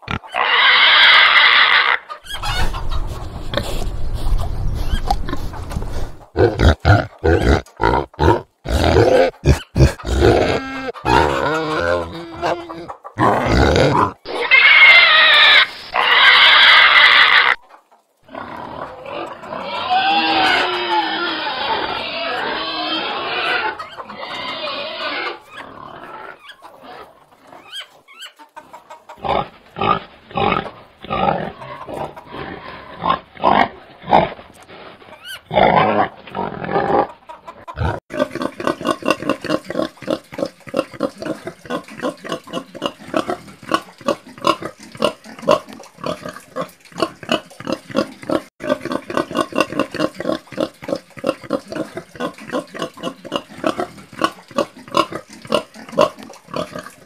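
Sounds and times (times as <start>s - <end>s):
pigs grunting: 4.8s - 15.4s, 18.2s - 27.8s, 29.2s - 57.0s.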